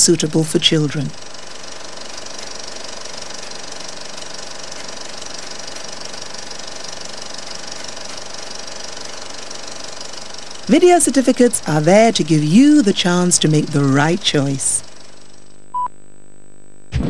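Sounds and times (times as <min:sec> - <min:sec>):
film projector clattering: 0:00.0 - 0:15.4.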